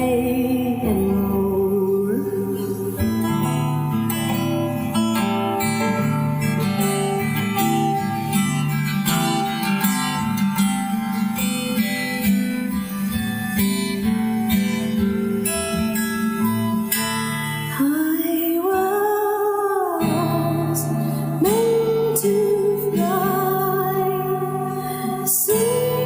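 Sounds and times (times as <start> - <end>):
acoustic guitar strummed: 0.0 - 26.0.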